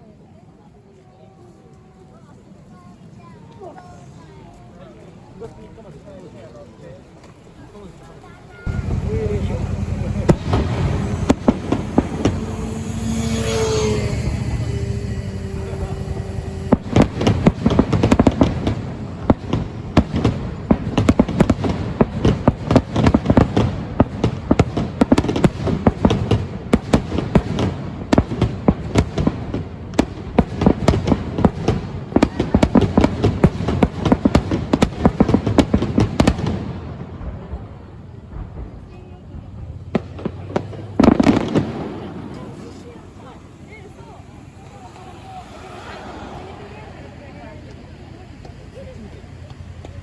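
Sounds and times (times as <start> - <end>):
aerial fireworks bursting: 7.4 - 50.0.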